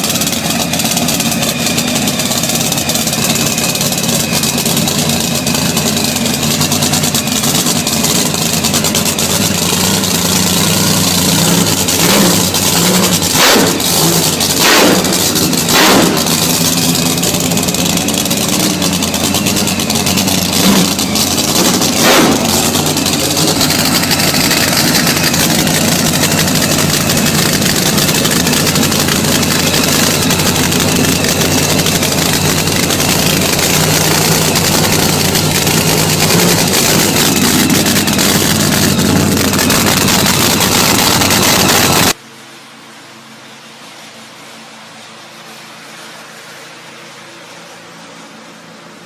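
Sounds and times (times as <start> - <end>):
loud engine running: 0.0 - 49.0.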